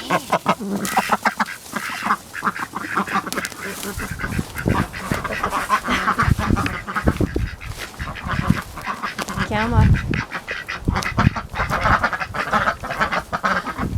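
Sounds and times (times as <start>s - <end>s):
ducks quacking: 0.0s - 13.9s.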